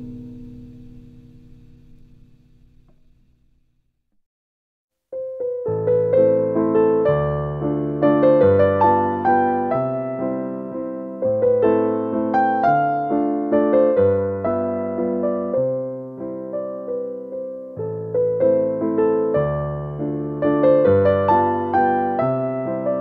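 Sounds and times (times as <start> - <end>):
slow piano piece: 0.0 - 3.3, 5.1 - 23.0.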